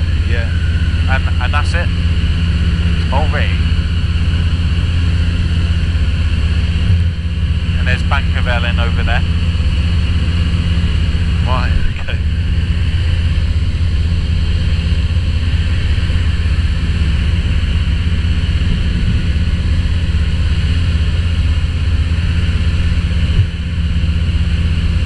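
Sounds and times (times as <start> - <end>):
light aircraft engine droning: 0.0 - 25.0.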